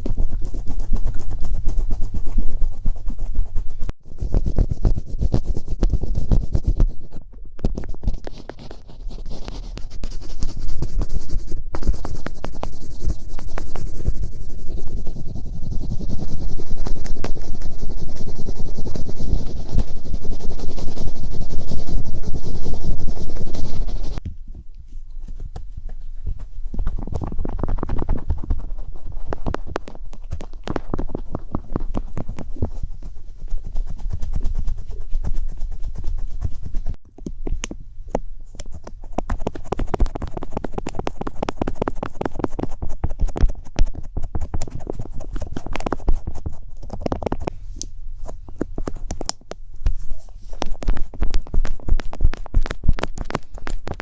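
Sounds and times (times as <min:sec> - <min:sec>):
scratching on microphone: 0:00.0 - 0:24.2, 0:24.9 - 0:37.0, 0:38.4 - 0:54.0.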